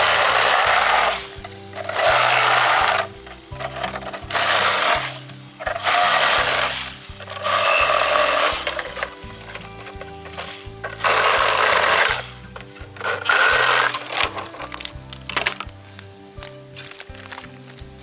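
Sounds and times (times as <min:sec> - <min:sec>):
saw cutting through bamboo: 0:00.0 - 0:15.7
background music: 0:00.0 - 0:18.0.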